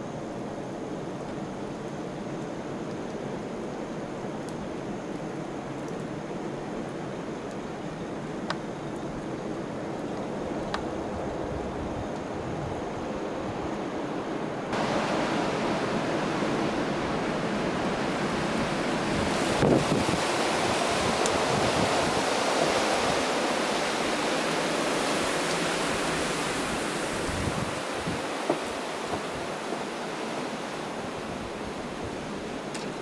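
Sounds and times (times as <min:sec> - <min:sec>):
blizzard wind blowing: 0:00.0 - 0:33.0.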